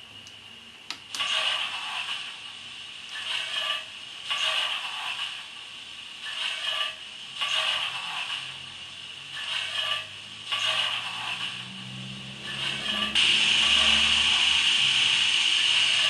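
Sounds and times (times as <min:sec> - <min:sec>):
model locomotive exhaust chuffs: 0:01.2 - 0:16.0.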